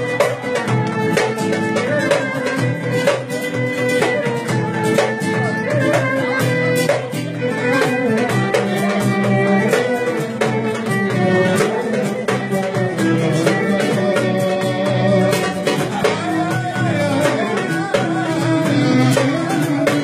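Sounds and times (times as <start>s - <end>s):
steady percussive beat: 0.0s - 20.0s
violin melody: 0.0s - 20.0s.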